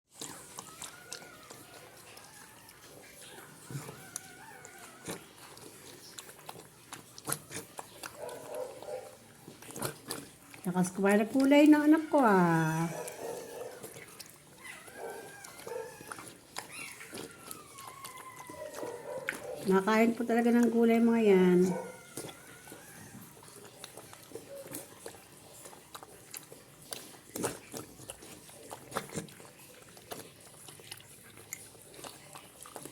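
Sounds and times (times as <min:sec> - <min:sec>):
dog chewing food: 0:00.1 - 0:32.9.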